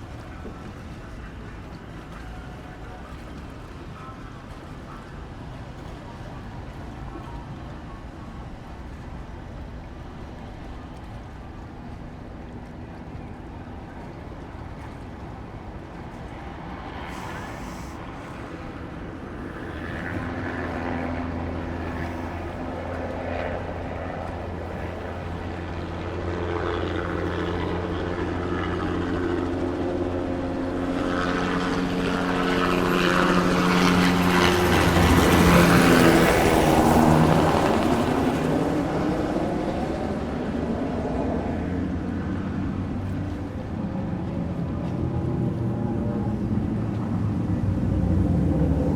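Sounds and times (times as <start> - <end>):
engine humming passing by: 0.0 - 48.9.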